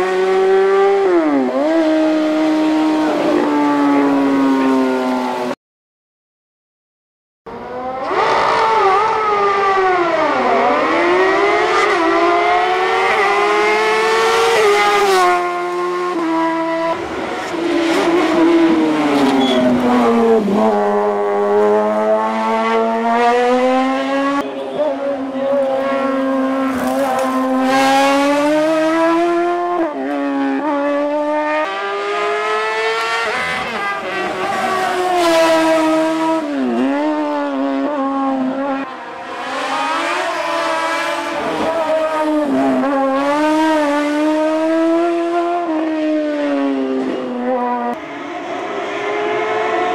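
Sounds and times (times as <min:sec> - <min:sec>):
racing car engine at full throttle: 0:00.0 - 0:05.6, 0:07.5 - 0:49.9.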